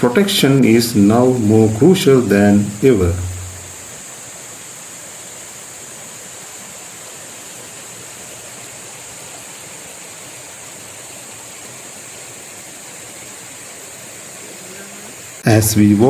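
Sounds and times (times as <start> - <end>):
high hiss: 0.0 - 16.0
stream water rushing: 0.0 - 16.0.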